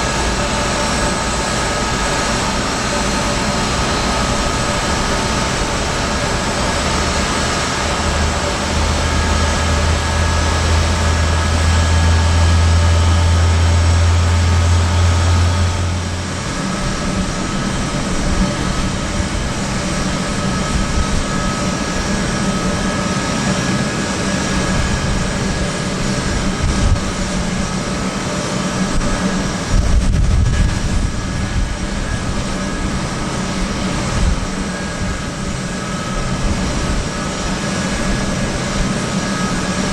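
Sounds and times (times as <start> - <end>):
deep rumble: 0.0 - 39.9
jet engines whining: 0.0 - 39.9.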